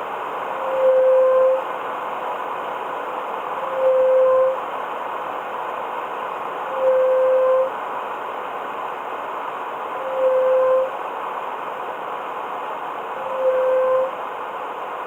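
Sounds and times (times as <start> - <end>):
air conditioning whir: 0.0 - 15.0
droning hum: 0.0 - 15.0.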